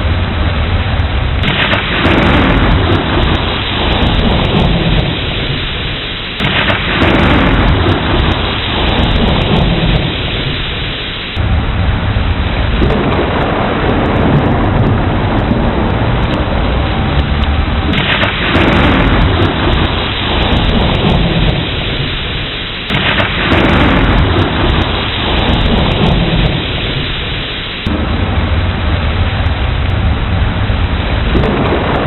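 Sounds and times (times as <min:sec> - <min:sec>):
heavy rain: 0:00.0 - 0:32.0
thunder rumbling: 0:00.0 - 0:32.0.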